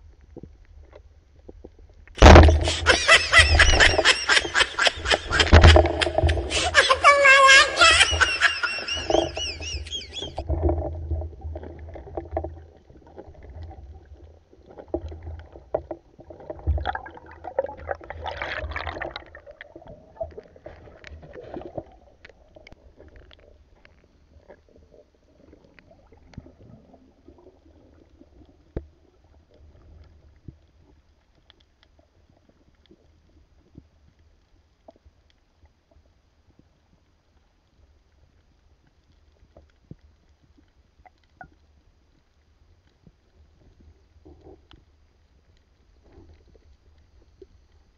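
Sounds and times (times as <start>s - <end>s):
underwater water rumbling: 0.0s - 47.9s.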